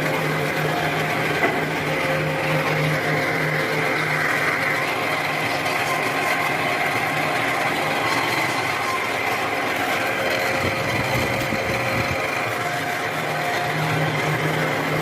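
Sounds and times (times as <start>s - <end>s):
machinery high whine: 0.0s - 15.0s
machinery low hum: 0.0s - 15.0s.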